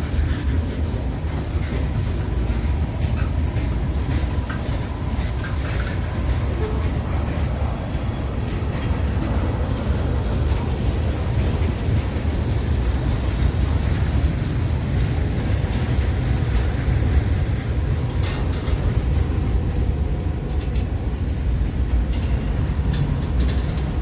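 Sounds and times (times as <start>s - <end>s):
train rumbling past: 0.0s - 24.0s
wheels clicking on rails: 0.0s - 24.0s.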